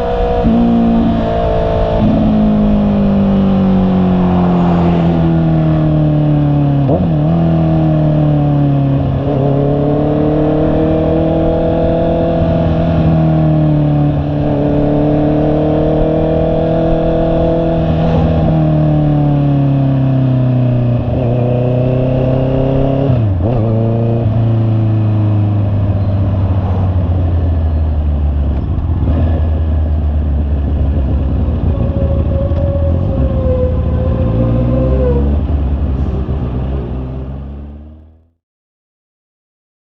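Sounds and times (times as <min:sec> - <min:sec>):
motorcycle engine revving: 0:00.0 - 0:38.3.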